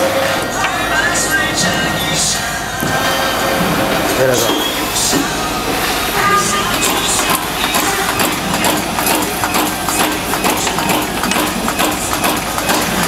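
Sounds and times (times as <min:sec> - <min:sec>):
machinery clicks and knocks: 0:00.0 - 0:13.0
steady mechanical din: 0:00.0 - 0:13.0.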